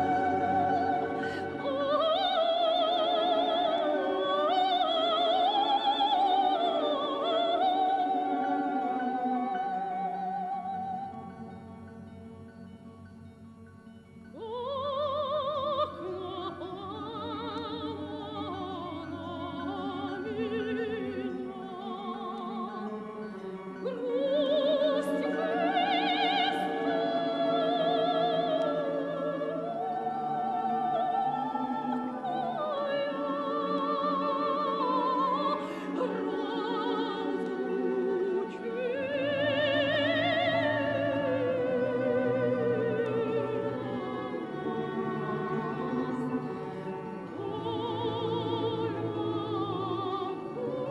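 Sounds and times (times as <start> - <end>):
operatic singing: 0.0 - 12.4, 14.2 - 50.9
classical instrumental accompaniment: 0.0 - 50.9.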